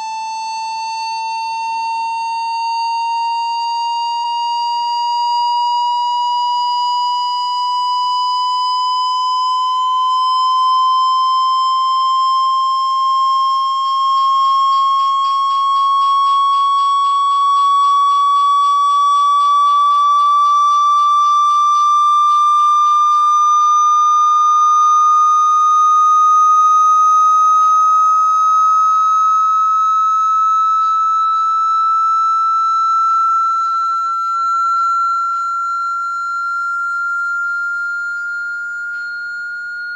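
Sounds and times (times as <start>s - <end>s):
pure tone rising in pitch: 0.0s - 39.9s.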